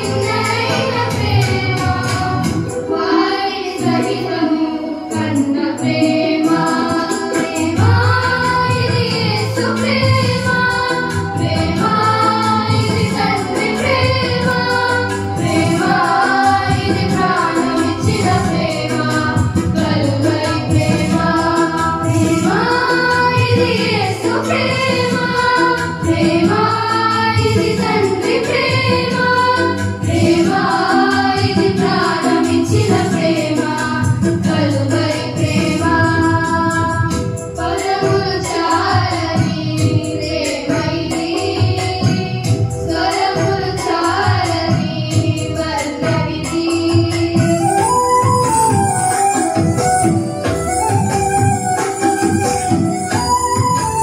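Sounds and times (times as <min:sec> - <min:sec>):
girls singing into microphones: 0:00.0 - 0:54.0
low instrumental accompaniment: 0:00.0 - 0:54.0.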